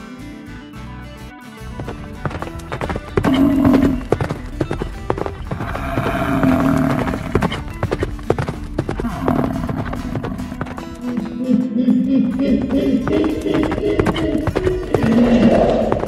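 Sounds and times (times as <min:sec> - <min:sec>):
background music: 0:00.0 - 0:16.0
hooves clip-clopping: 0:01.6 - 0:16.0.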